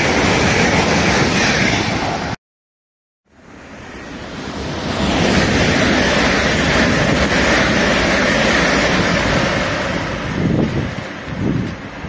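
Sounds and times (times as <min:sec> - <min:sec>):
train passing at speed: 0:00.0 - 0:02.4, 0:03.3 - 0:12.0.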